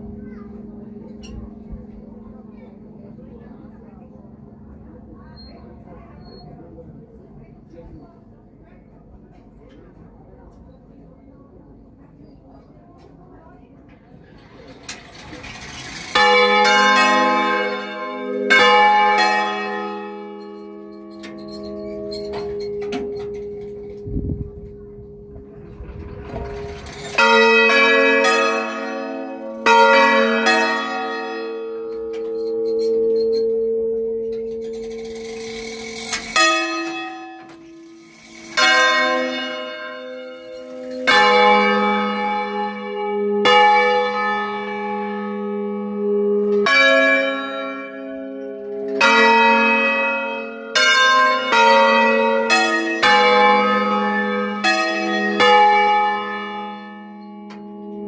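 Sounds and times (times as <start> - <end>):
church bells ringing: 0.0 - 9.2, 14.7 - 58.0.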